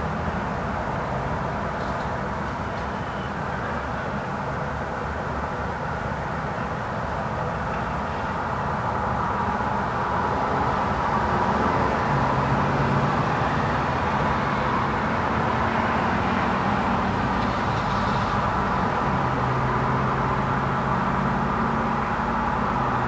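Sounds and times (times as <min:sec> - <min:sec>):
car engines and tyre noise: 0:00.0 - 0:23.0
low steady engine hum: 0:00.0 - 0:23.0.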